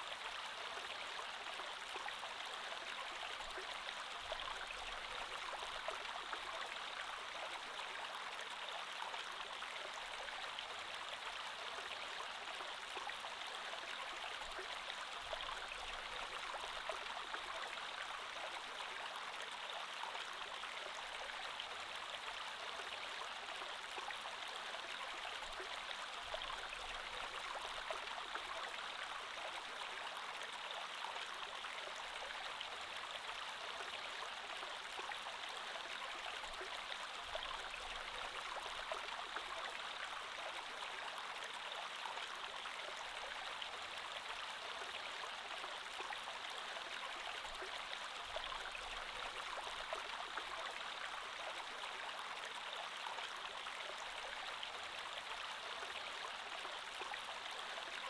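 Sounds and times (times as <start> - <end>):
creek water flowing: 0.0 - 58.0.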